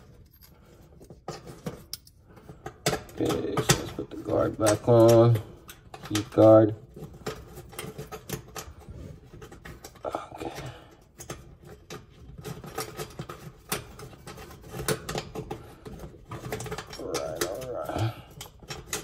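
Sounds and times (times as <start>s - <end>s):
sheet metal clicks and rattles: 1.2s - 19.0s.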